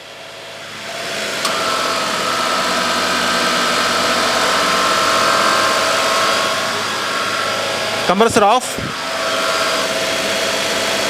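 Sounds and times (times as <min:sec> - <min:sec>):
ac compressor whine: 0:00.0 - 0:11.0
car engine running: 0:00.0 - 0:11.0.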